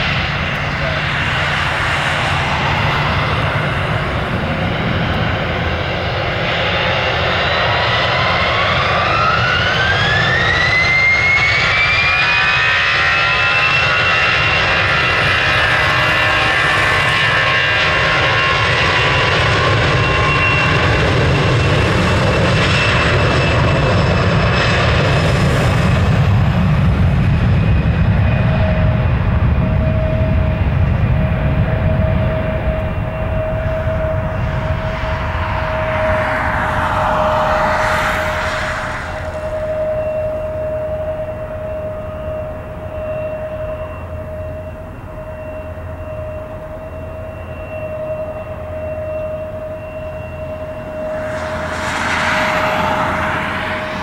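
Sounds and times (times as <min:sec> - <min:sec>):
aircraft engine rumble: 0:00.0 - 0:54.0
jet engines spooling up whine: 0:00.0 - 0:54.0.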